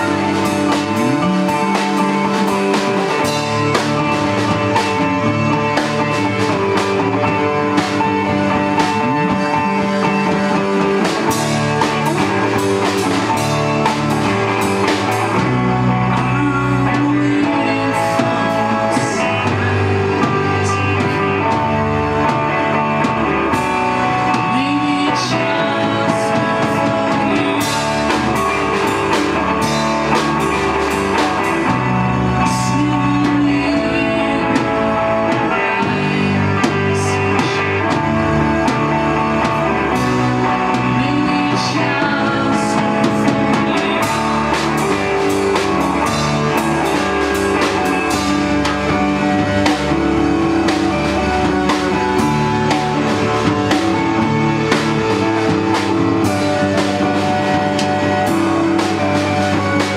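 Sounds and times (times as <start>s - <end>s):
drums steady beat: 0.0s - 59.9s
rock band playing live: 0.0s - 59.9s.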